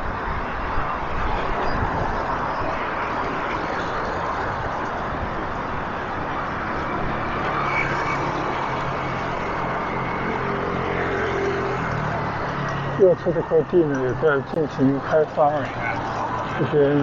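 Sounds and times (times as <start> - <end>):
city street traffic noise: 0.0 - 17.0.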